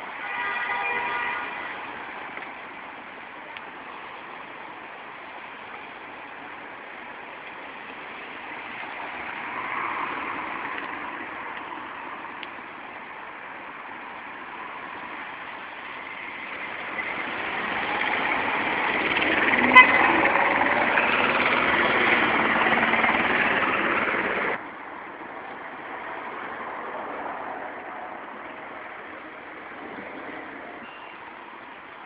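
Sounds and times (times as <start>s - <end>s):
city street traffic: 0.0s - 32.0s.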